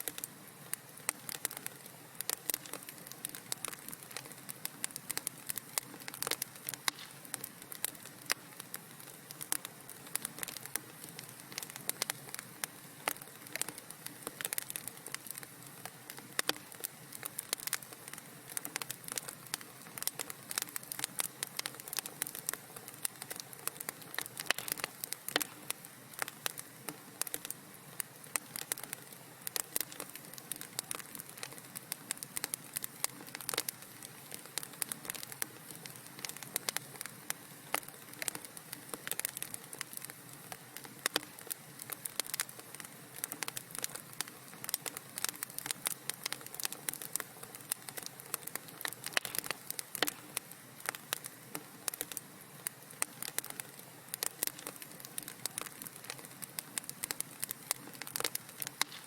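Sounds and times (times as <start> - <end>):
soft hiss: 0.0 - 59.0
wood fire crackling: 0.0 - 59.0.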